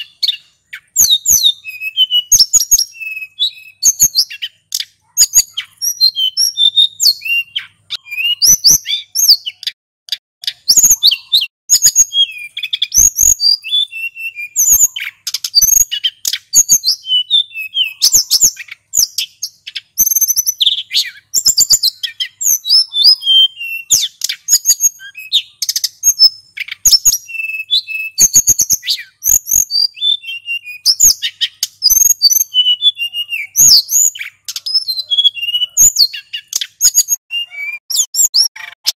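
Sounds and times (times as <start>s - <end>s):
bird singing chirps and whistles: 0.0s - 9.8s, 10.4s - 38.9s.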